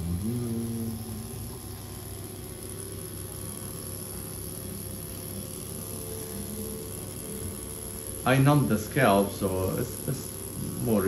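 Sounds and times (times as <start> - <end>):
electric needling pen buzzing: 0.0 - 11.0.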